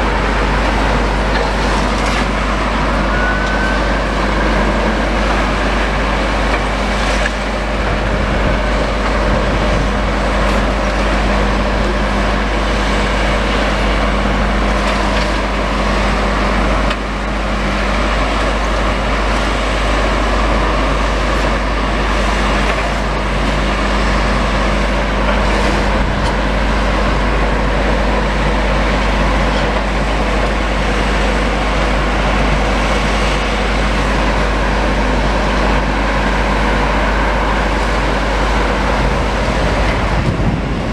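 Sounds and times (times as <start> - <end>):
diesel machinery engine drone: 0.0 - 40.9.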